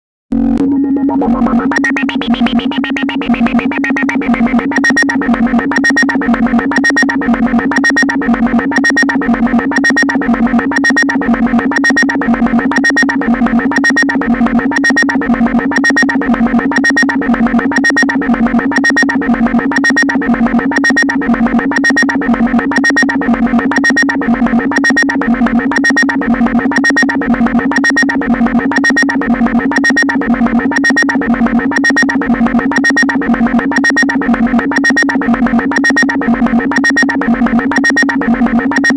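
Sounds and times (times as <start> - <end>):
pulsing electronic vocoder tone: 0.3 - 38.9.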